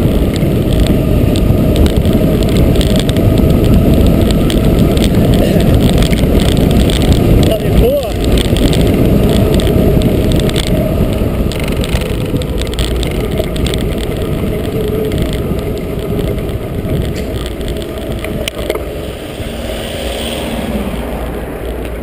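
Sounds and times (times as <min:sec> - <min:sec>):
bike tyres rolling on tarmac: 0:00.0 - 0:22.0
wind on microphone: 0:00.0 - 0:22.0.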